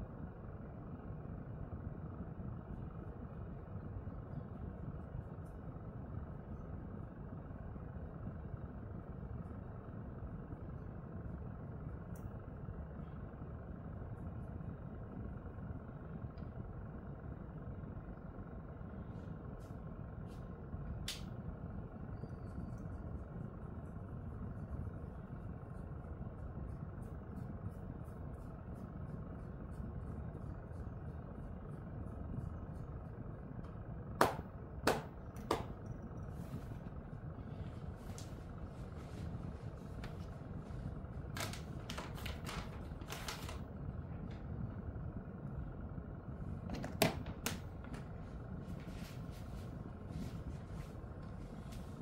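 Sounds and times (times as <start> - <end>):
low room noise: 0.0 - 52.0.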